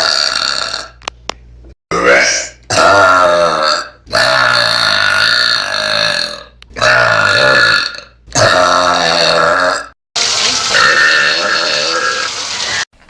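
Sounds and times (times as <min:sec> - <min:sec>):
long loud burps: 0:00.0 - 0:01.0, 0:01.9 - 0:10.0, 0:10.7 - 0:12.3.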